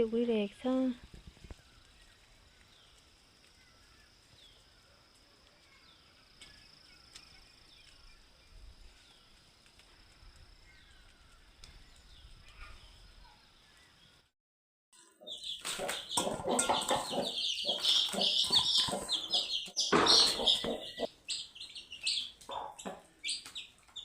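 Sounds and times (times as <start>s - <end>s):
small birds chirping: 0.0s - 14.3s, 15.0s - 24.0s.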